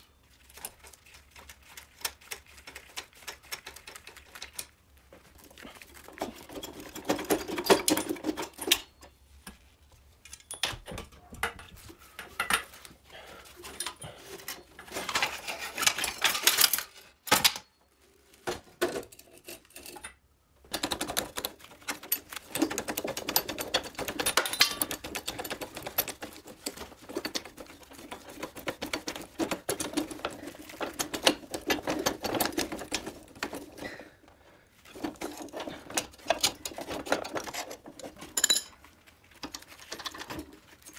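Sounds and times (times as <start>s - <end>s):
hand tools clicking and clattering: 5.4s - 9.6s, 10.2s - 17.8s, 18.5s - 40.9s.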